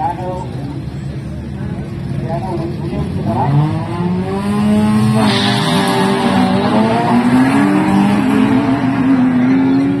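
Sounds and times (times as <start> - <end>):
racing car engines revving: 0.0 - 10.0.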